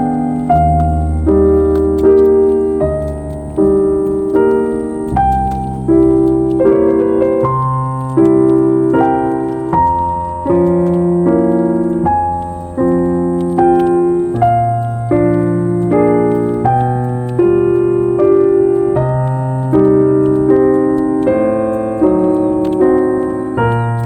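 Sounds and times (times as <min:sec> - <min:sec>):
slow calm piano chords: 0:00.0 - 0:24.0.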